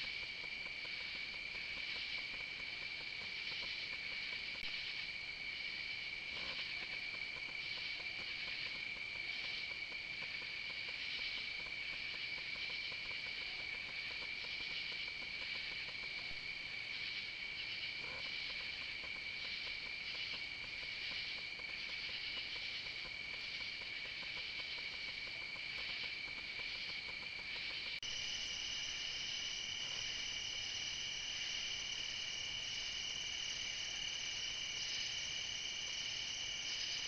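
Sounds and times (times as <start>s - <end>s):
crickets steady high trill: 0.0s - 37.0s.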